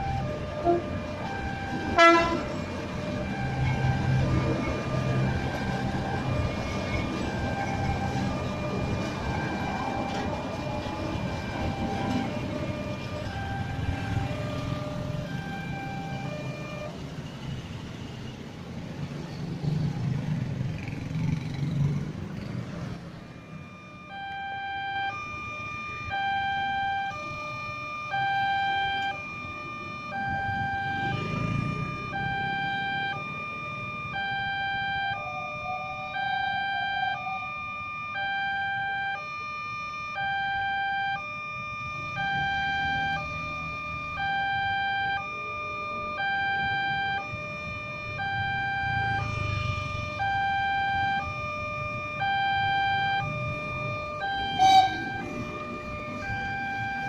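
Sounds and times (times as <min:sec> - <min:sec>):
level crossing alarm two-tone signal: 0:00.0 - 0:17.0, 0:23.2 - 0:57.0
road traffic passing: 0:00.0 - 0:57.0.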